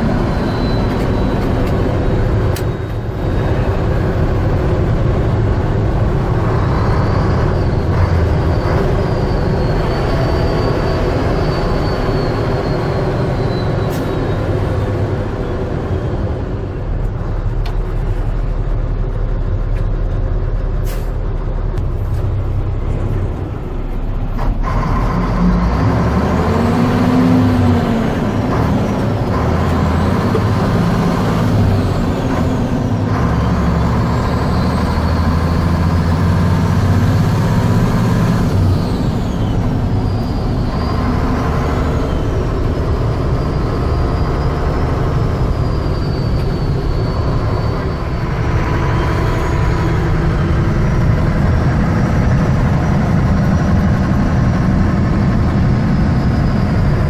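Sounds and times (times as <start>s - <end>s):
diesel truck engine shifting gears: 0.0s - 57.0s.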